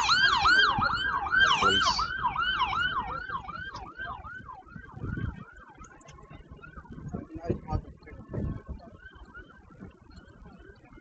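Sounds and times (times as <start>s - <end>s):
police siren yelping: 0.0s - 11.0s.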